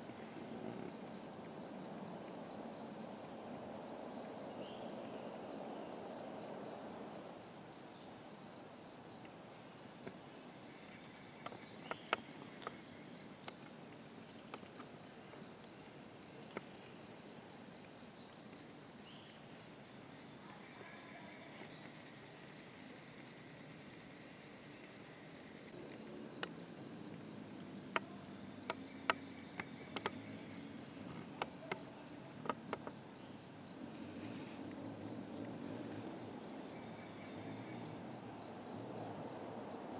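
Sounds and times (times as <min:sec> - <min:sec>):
insect chorus buzzing: 0:00.0 - 0:39.9
pulsing insect trill: 0:00.0 - 0:39.9.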